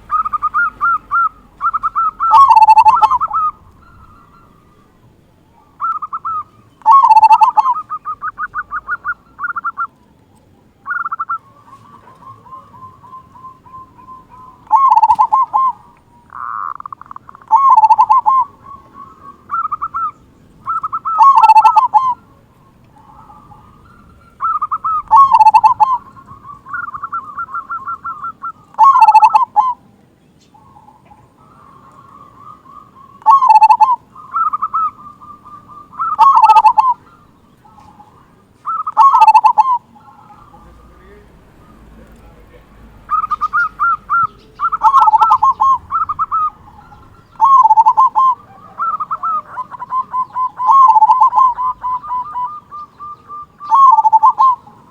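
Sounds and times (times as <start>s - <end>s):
dove cooing: 0.0s - 54.9s.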